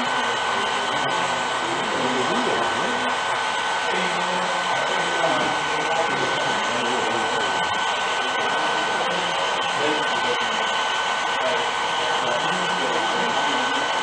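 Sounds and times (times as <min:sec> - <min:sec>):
faint voices murmuring: 0:00.0 - 0:14.0
model train motor whirring: 0:00.0 - 0:14.0.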